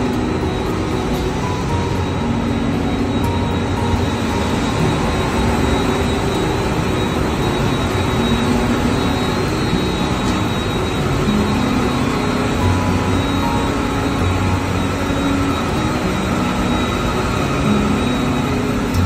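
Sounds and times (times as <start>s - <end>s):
faint high whine: 0.0s - 19.0s
printing press running: 0.0s - 19.0s.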